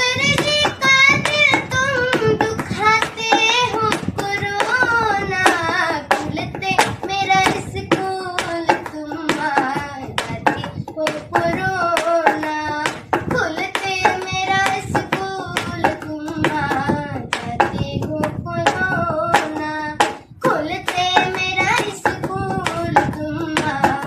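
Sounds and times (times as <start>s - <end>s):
child singing: 0.0s - 24.0s
hand-struck drum beat: 0.0s - 24.0s.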